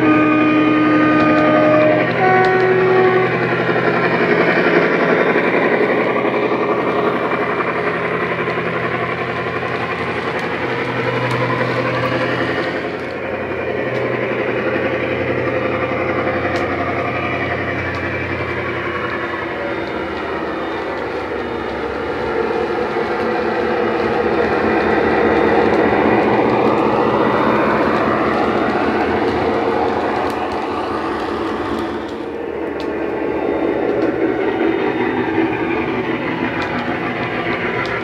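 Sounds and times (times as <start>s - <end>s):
diesel locomotive engine sound: 0.0s - 38.0s.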